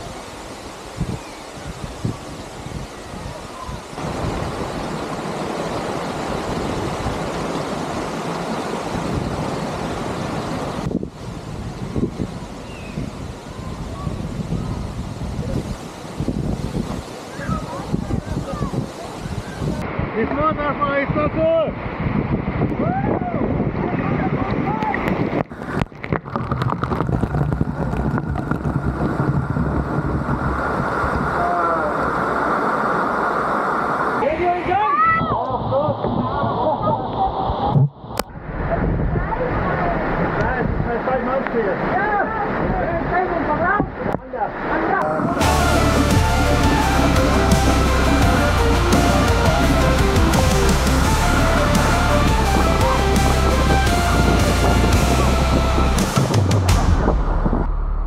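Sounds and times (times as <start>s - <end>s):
wind buffeting microphone: 0.0s - 31.6s, 35.0s - 41.1s, 45.1s - 58.0s
waterfall rushing: 0.0s - 37.7s, 38.3s - 57.5s.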